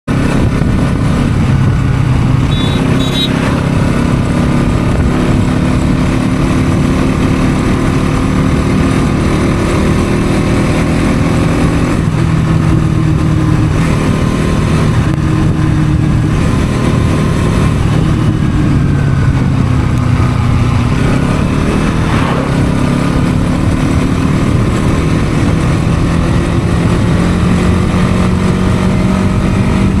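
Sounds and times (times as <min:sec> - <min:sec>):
motorcycle engine running: 0:00.1 - 0:30.0.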